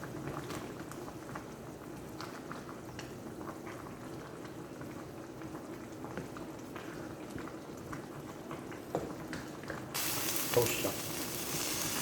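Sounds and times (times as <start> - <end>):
sauce bubbling in a pan: 0.0 - 12.0.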